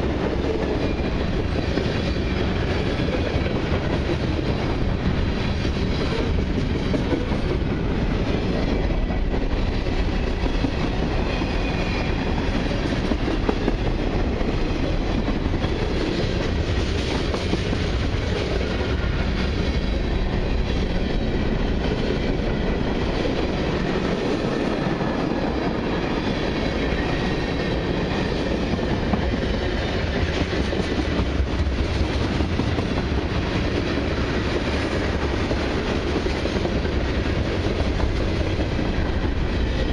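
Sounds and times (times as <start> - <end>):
freight train rumbling past: 0.0 - 39.9
steel wheels clattering on rails: 0.0 - 39.9.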